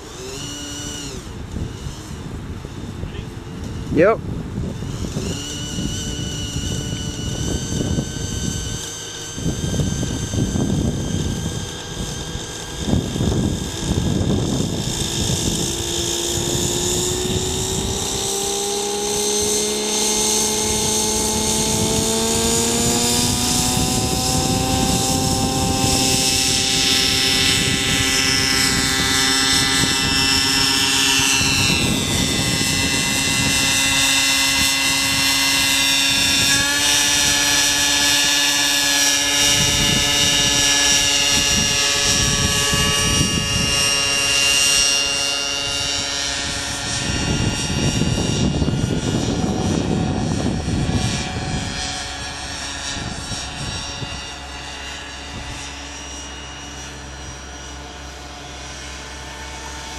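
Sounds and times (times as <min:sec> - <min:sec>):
model helicopter engine and rotors: 0:00.0 - 0:59.9.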